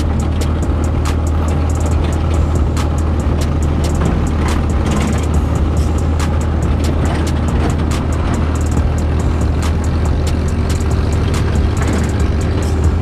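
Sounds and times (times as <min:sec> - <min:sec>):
buggy engine rumbling: 0:00.0 - 0:13.0
vehicle clicks and rattles: 0:00.0 - 0:13.0.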